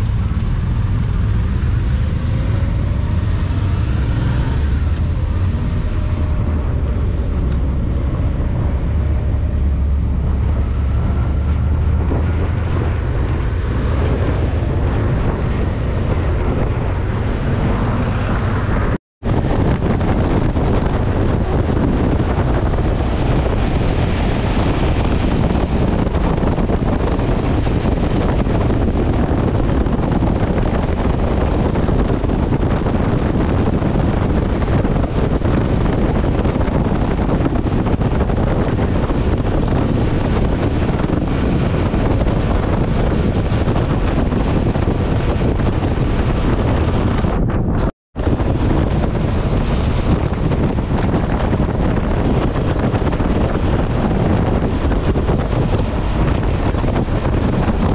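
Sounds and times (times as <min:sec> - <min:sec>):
motorcycle engine humming: 0:00.0 - 0:57.9
wind rushing on microphone: 0:00.0 - 0:57.9.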